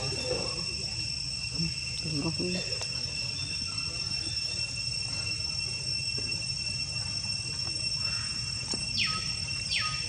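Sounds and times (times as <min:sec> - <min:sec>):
high-pitched insect drone: 0:00.0 - 0:10.0.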